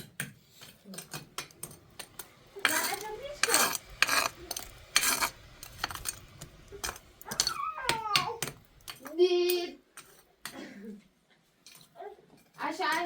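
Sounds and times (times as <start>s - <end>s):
dishes and utensils clattering: 0.0s - 10.6s.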